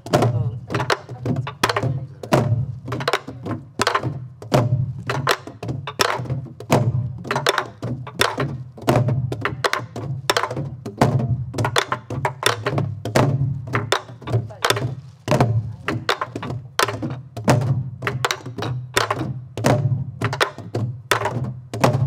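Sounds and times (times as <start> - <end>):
barrel drums playing: 0.0 - 22.0.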